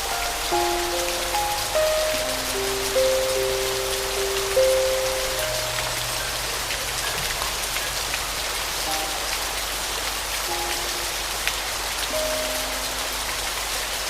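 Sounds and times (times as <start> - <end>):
rain pattering: 0.0 - 14.0
soft piano notes: 0.0 - 14.0.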